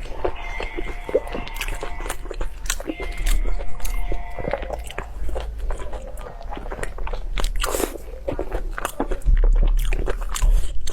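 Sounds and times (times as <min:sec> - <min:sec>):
person chewing crunchy food: 0:00.0 - 0:10.9.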